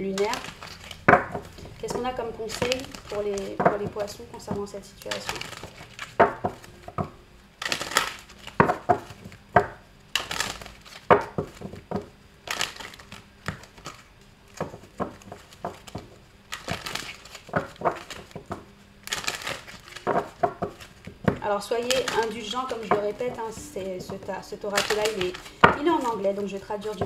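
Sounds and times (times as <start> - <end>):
cards shuffled by hand: 0.0 - 27.0.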